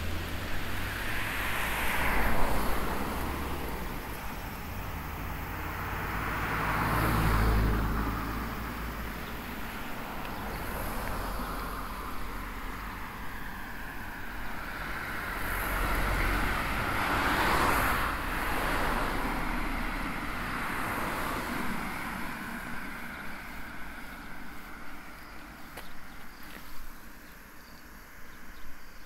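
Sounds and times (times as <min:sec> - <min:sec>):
car driving past: 0:00.0 - 0:25.6.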